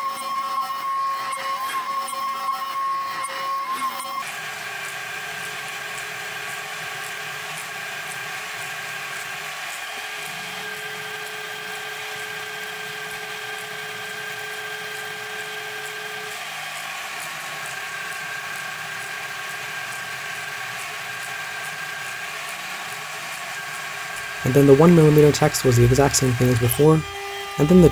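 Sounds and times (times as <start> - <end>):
mill cutting steel whine: 0.0 - 27.9.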